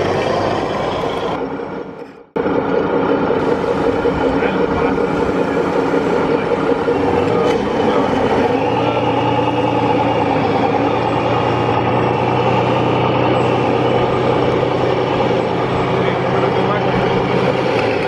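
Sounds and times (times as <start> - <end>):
deeper hum: 0.0 - 18.0
toy truck diesel engine drone: 0.0 - 18.0.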